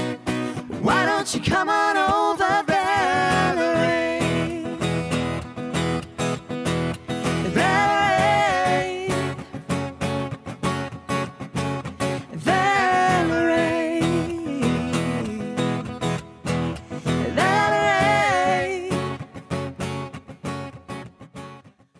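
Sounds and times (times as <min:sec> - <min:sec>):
acoustic guitar strumming: 0:00.0 - 0:21.8.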